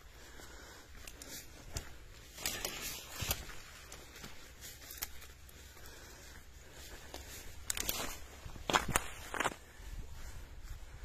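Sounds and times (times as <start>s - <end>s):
footsteps crunching on dry leaves: 0.2s - 10.4s.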